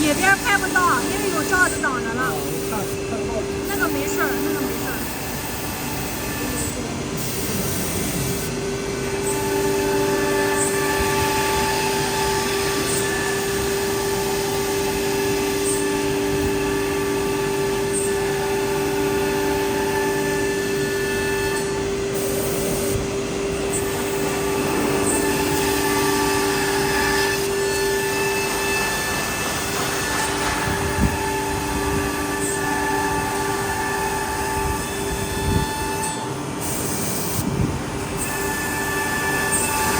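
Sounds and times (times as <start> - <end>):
machine tones: 0.0 - 39.9
router spindle high whine: 0.0 - 39.9.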